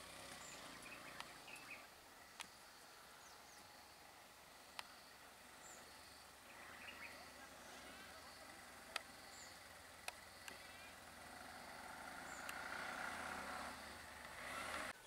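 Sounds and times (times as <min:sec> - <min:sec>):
auto-rickshaw engine passing: 0:00.0 - 0:15.0.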